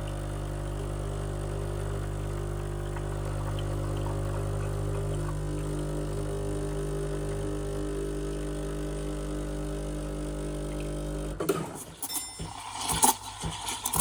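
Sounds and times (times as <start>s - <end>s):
espresso machine humming: 0.0s - 14.0s.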